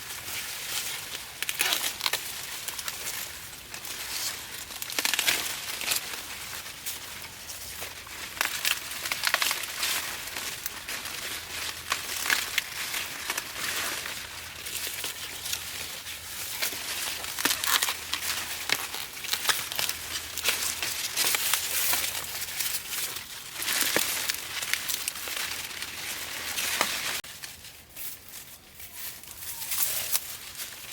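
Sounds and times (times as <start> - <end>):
dry rustling and crinkling: 0.0 - 30.9.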